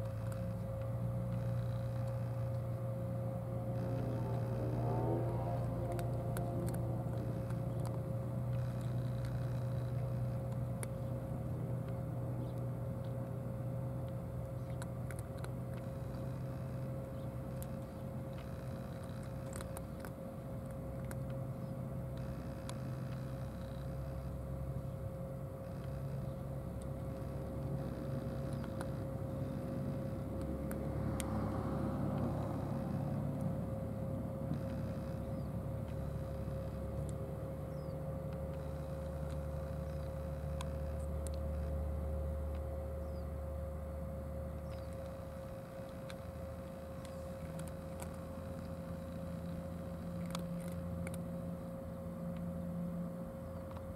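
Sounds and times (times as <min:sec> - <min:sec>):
machine droning: 0:00.0 - 0:53.9.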